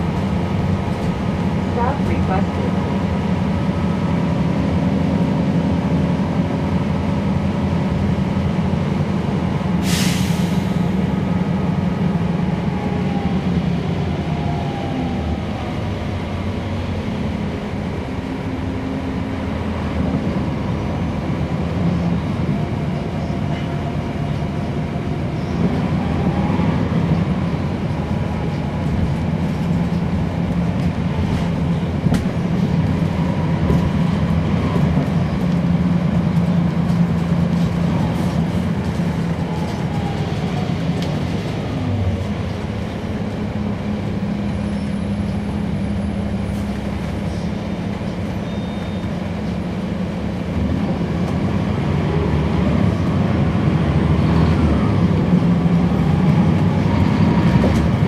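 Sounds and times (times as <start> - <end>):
bus diesel engine whine: 0.0 - 58.0.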